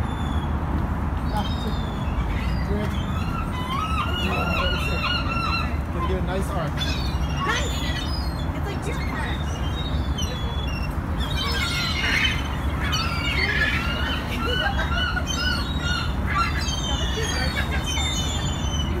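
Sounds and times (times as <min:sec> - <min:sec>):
gulls calling: 0:01.2 - 0:19.0.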